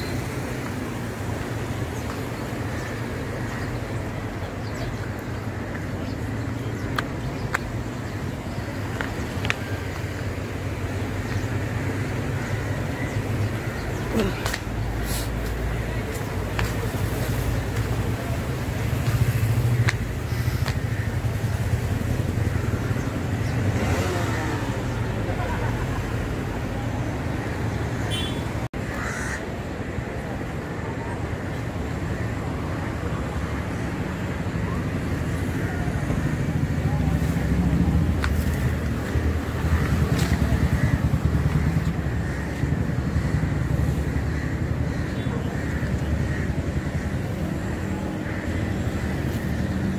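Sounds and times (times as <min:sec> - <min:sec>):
passing cars rumbling: 0:00.0 - 0:49.9
road traffic noise: 0:00.0 - 0:49.9.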